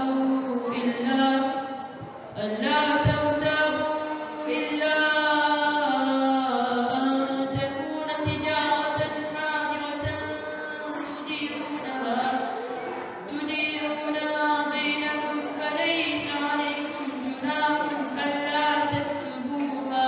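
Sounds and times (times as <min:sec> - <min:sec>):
boy chanting into microphone: 0:00.0 - 0:20.0.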